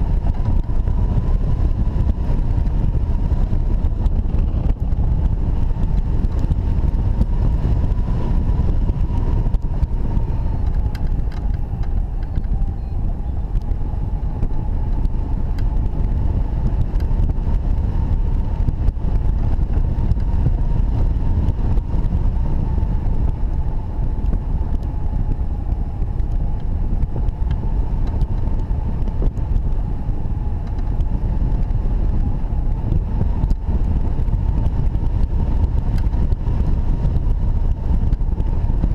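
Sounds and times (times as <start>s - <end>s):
wind rumble on microphone: 0.0s - 38.9s.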